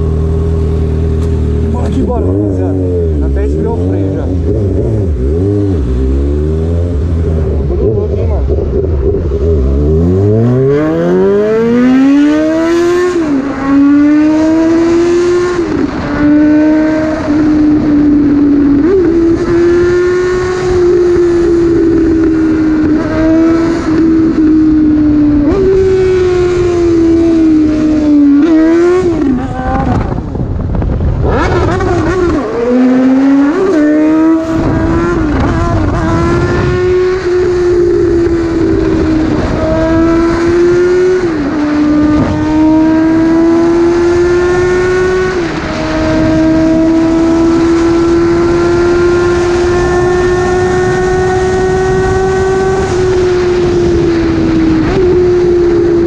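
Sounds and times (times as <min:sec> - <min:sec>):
motorcycle engine at full throttle: 0:00.0 - 0:56.0
wind rush on microphone: 0:00.0 - 0:56.0.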